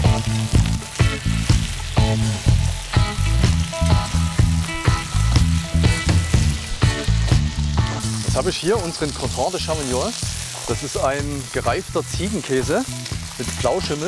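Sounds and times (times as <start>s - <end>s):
background music with beat: 0.0s - 14.0s
food sizzling on hotplate: 0.0s - 14.0s.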